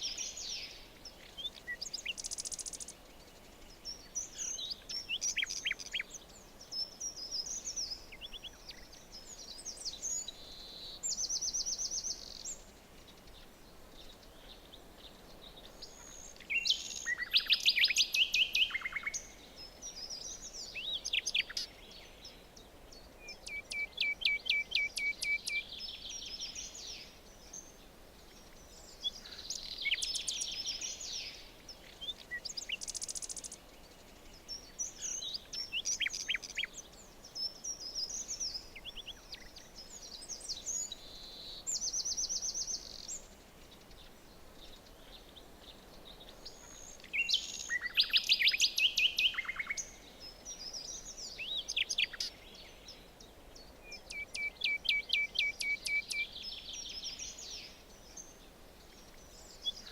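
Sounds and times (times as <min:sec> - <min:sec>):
faint background hiss: 0:00.0 - 0:59.9
songbirds singing and calling: 0:00.0 - 0:59.9.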